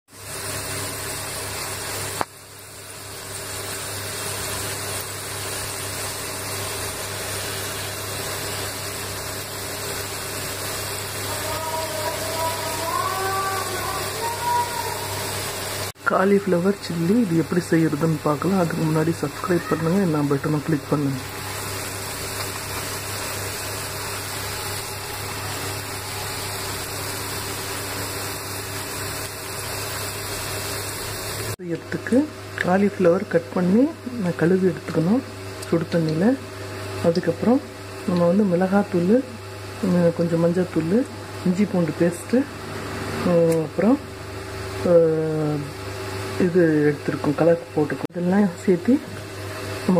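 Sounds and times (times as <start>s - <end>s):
food deep-frying in hot oil: 0.1s - 49.9s.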